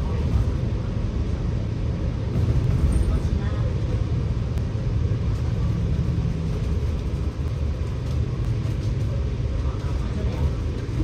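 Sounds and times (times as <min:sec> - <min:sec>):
bus engine rumble from inside: 0:00.0 - 0:11.0.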